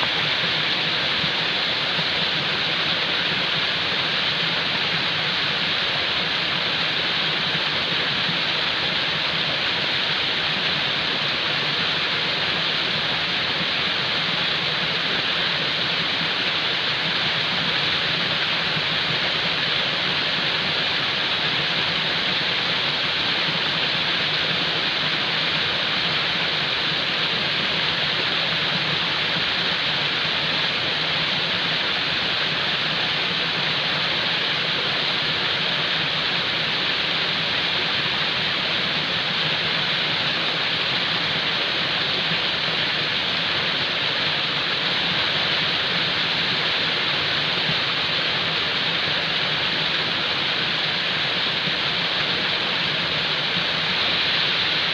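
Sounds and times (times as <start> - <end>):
falling water rushing: 0.0 - 54.9.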